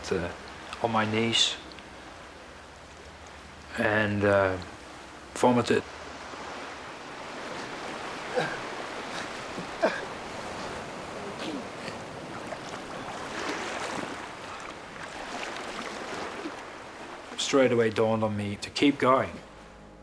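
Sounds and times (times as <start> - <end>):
rushing water: 0.0 - 19.6.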